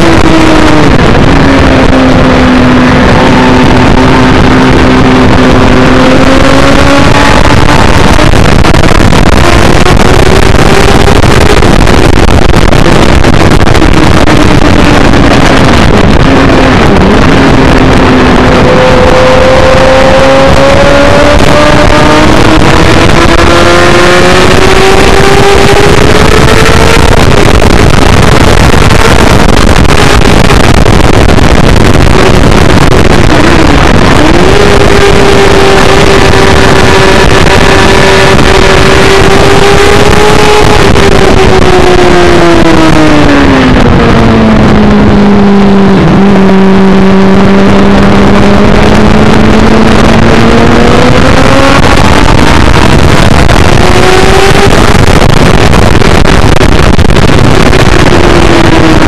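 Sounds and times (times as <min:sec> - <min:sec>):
motorcycle engine at high revs: 0:00.0 - 0:59.0
wind rush: 0:00.0 - 0:59.0.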